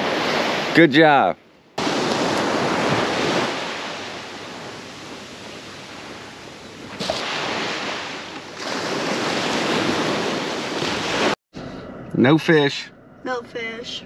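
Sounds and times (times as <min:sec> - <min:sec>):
waves breaking on beach: 0:00.0 - 0:11.4.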